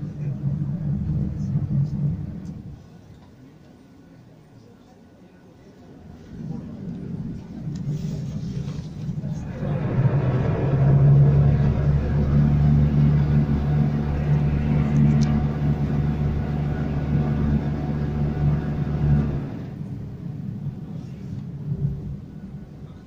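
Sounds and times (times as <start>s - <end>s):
boat engine droning: 0.0s - 3.1s, 5.9s - 23.0s.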